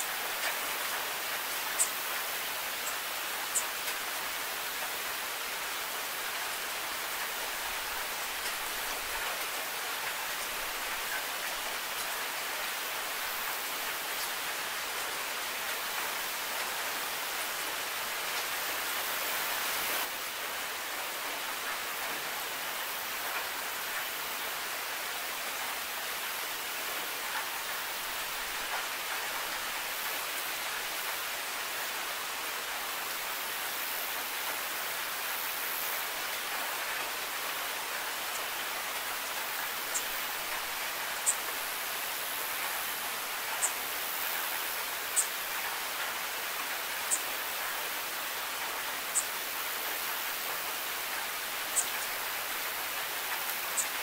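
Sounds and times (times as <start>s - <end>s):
heavy rain on hard surface: 0.0s - 54.0s.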